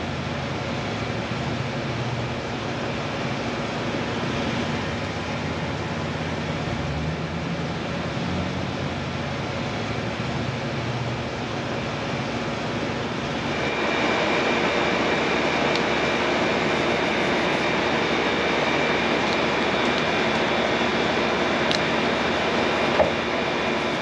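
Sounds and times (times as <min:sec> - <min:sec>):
high whine: 0:00.0 - 0:24.0
machine humming: 0:00.0 - 0:24.0.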